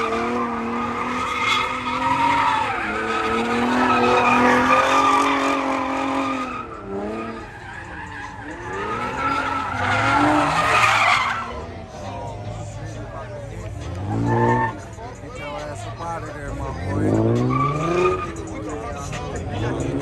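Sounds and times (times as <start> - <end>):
tyres squealing: 0.0 - 11.9, 13.8 - 15.0, 15.6 - 20.0
car engine revving: 0.0 - 20.0.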